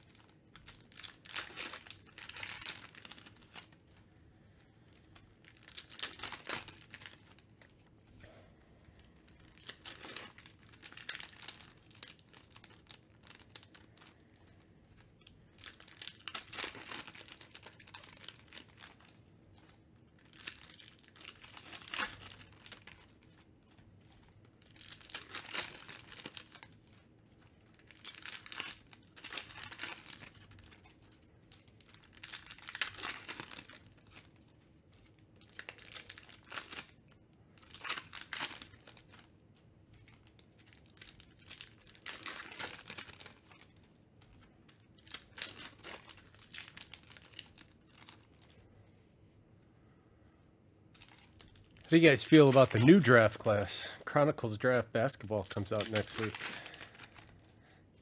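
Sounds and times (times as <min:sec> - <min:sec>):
card pack wrappers crinkling and tearing: 0:00.0 - 0:08.0, 0:08.9 - 0:48.7, 0:50.9 - 0:58.0.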